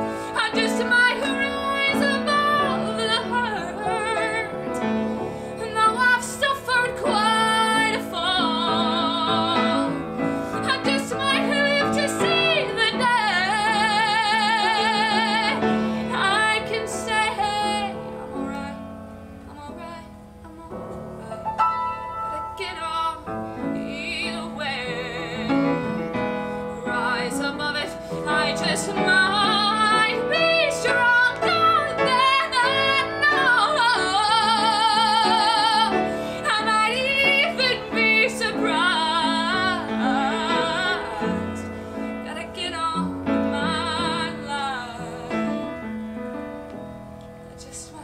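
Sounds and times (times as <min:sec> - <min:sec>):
woman singing with vibrato: 0:00.0 - 0:18.9, 0:19.5 - 0:46.0, 0:47.5 - 0:48.0
piano accompaniment: 0:00.0 - 0:48.0.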